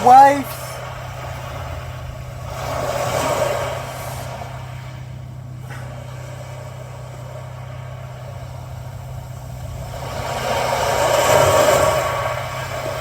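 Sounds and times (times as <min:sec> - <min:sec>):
ocean waves through speakers: 0:00.0 - 0:13.0
steady low hum: 0:00.0 - 0:13.0.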